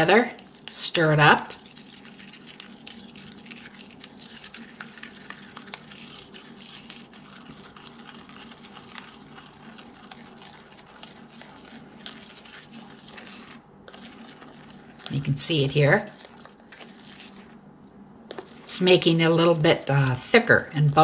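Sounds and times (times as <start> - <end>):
crackly fizz: 0.0 - 17.7.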